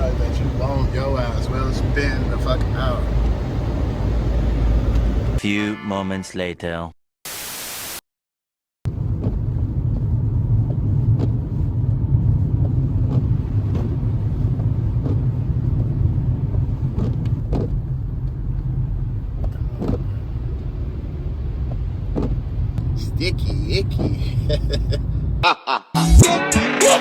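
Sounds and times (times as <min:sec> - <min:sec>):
car engine and tyre rumble: 0:00.0 - 0:05.4, 0:08.9 - 0:25.4.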